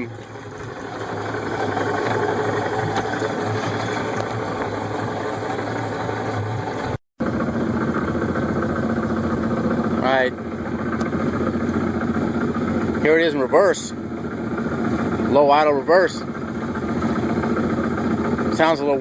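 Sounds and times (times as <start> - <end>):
outboard motor idling: 0.0 - 19.0.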